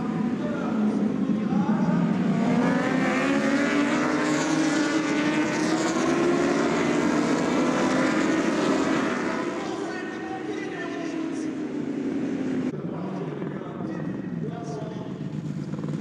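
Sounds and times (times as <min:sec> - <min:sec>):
motorbike engines revving: 0:00.0 - 0:16.0.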